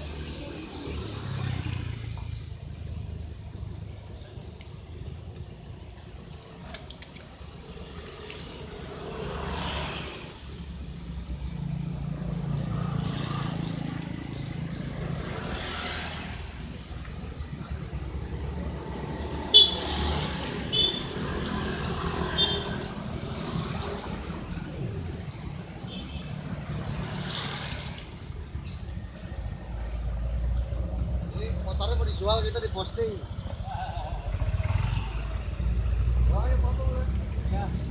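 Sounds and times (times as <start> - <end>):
traffic on wet road: 0.0 - 37.9.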